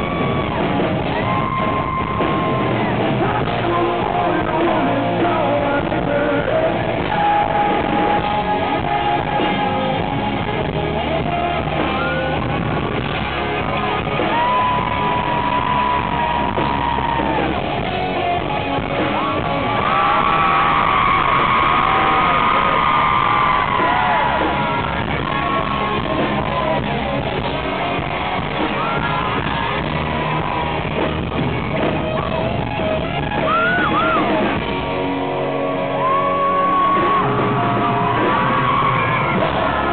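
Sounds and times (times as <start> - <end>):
distorted electric guitars: 0.0 - 39.9
lead vocal singing and shouting: 0.0 - 39.9.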